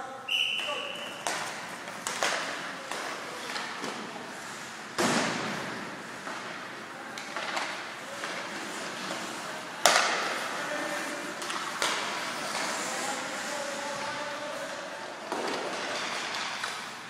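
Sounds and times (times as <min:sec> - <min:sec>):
hockey pucks and sticks cracking: 0:00.5 - 0:17.0.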